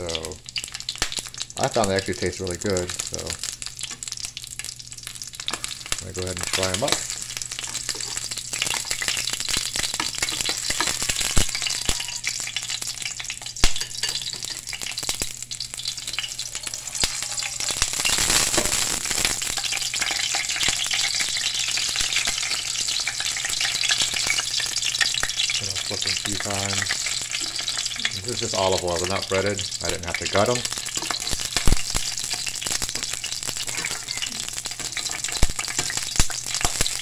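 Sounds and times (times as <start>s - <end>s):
frying in hot oil sizzling: 0.0s - 37.0s.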